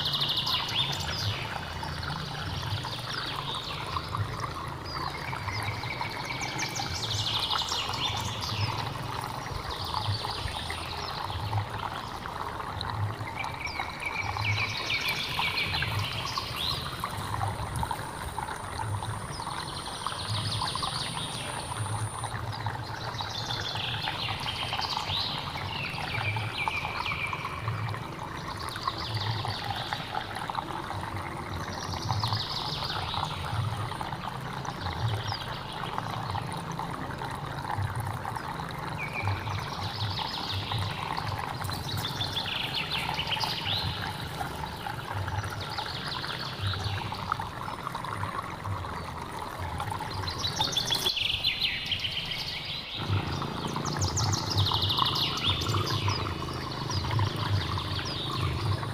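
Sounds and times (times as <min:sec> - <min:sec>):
stream water trickling: 0:00.0 - 0:58.9.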